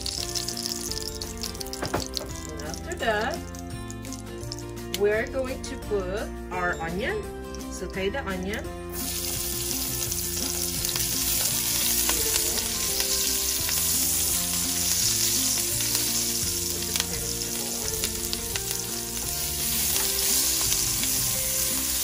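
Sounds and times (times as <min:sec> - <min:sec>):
onion sizzling in oil: 0:00.0 - 0:05.5, 0:07.5 - 0:22.0.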